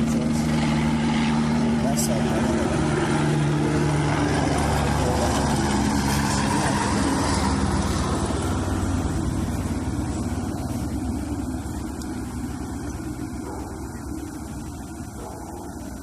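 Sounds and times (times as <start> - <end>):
helicopter rotor and engine drone: 0.0 - 16.0.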